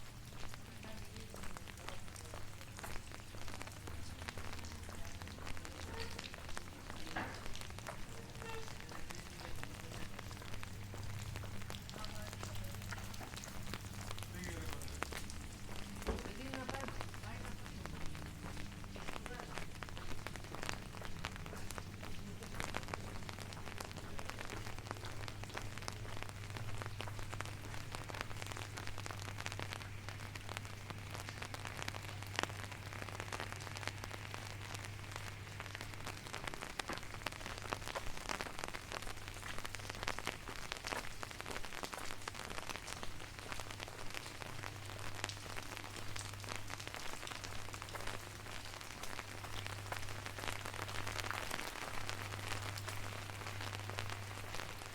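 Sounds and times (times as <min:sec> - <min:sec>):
rain on hard surfaces: 0:00.0 - 0:54.9.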